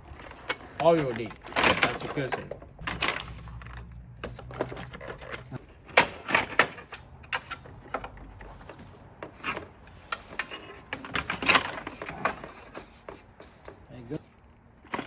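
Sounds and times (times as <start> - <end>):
hands clattering car parts: 0.1 - 14.3.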